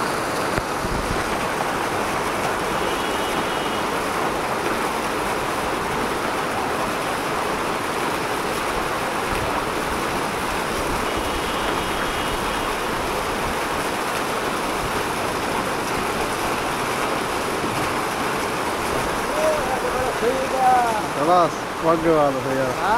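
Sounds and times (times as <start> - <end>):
floodwater rushing: 0.0 - 22.9.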